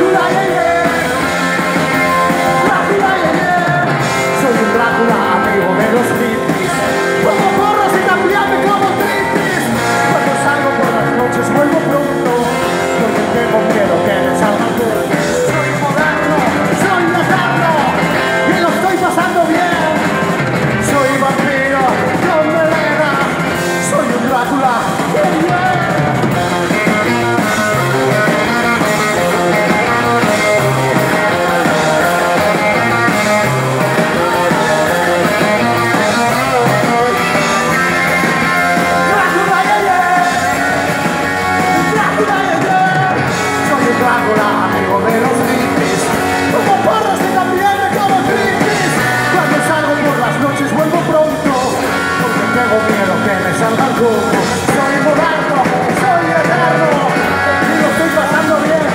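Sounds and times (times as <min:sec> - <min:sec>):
live rock band: 0:00.0 - 0:58.9.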